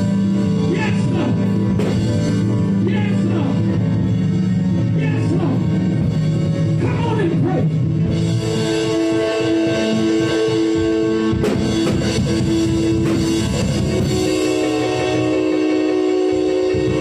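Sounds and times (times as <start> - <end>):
drums: 0.0 - 17.0
held keyboard chords: 0.0 - 17.0.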